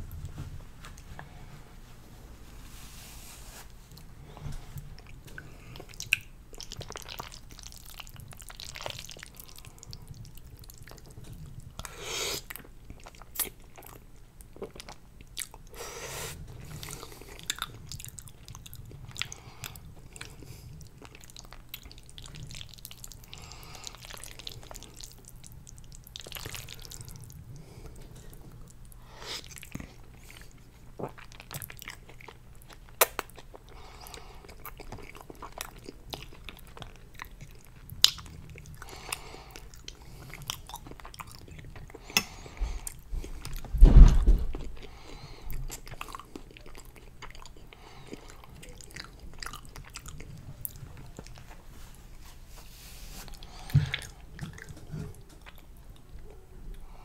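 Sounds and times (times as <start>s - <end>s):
wet chewing and slurping: 4.7s - 43.7s, 44.5s - 56.1s.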